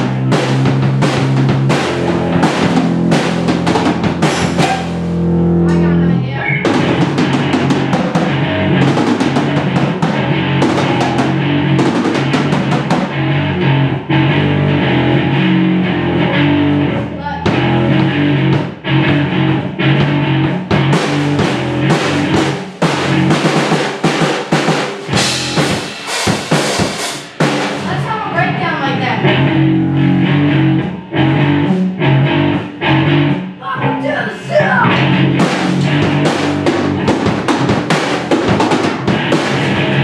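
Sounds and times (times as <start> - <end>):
amplified guitar: 0.0 - 40.0
drum kit playing rock: 0.0 - 40.0.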